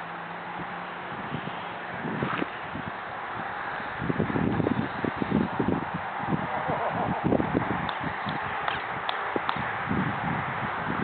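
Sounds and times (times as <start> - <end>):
wind buffeting microphone: 0.5 - 11.0.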